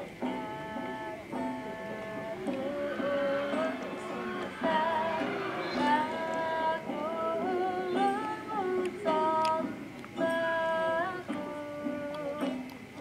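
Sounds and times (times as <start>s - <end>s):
plucked strings: 0.0s - 12.9s
high voice singing: 0.2s - 12.6s.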